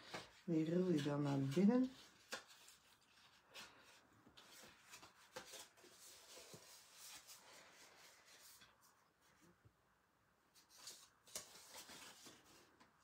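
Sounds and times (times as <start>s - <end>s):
paper rustling and crinkling: 0.0s - 9.5s, 10.5s - 13.0s.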